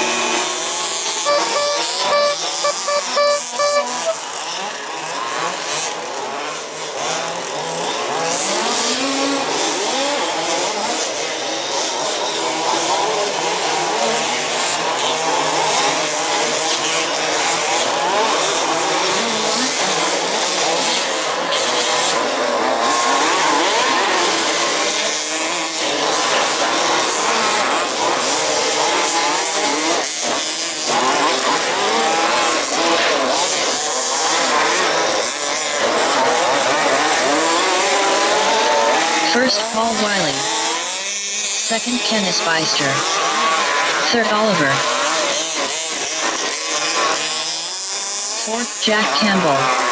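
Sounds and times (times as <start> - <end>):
small two-stroke engines buzzing: 0.0 - 49.9.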